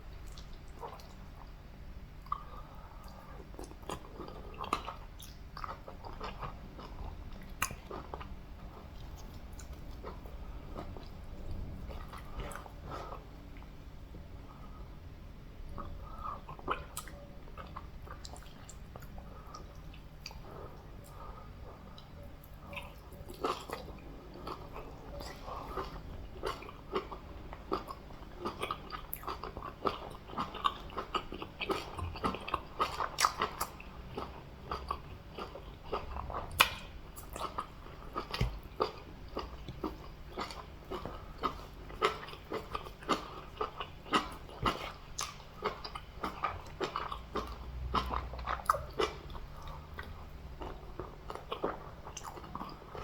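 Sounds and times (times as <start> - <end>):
wet chewing and smacking: 2.2 - 13.7, 15.7 - 53.0.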